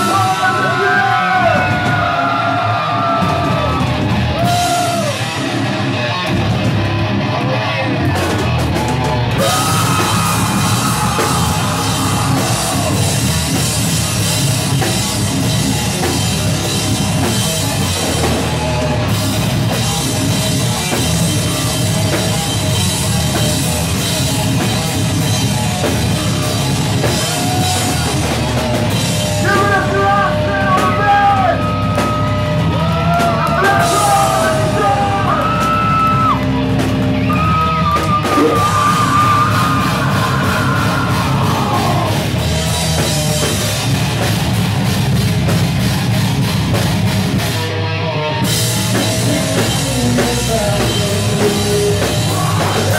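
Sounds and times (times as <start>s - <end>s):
heavy metal band playing: 0.0s - 52.9s.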